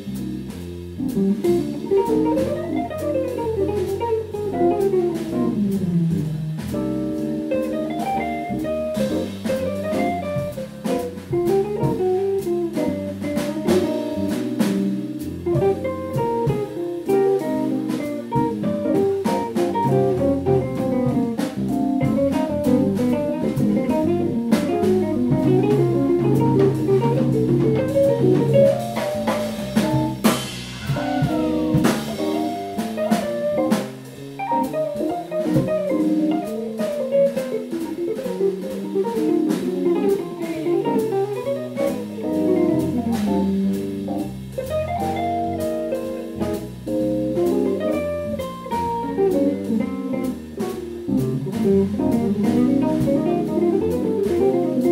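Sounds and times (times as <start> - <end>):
drum kit: 0.0 - 54.9
electric bass: 0.0 - 54.9
jazz electric guitar solo: 0.0 - 54.9.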